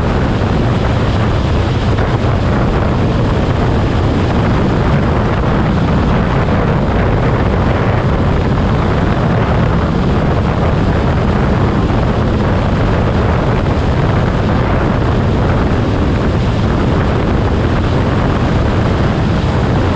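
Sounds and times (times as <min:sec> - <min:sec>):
wind rushing over microphone: 0:00.0 - 0:19.9.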